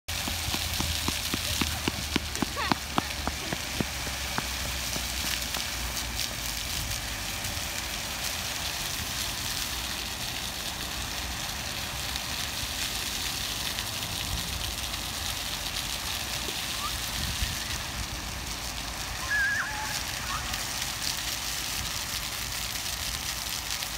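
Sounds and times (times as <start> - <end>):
water fountain splashing: 0.1 - 23.9.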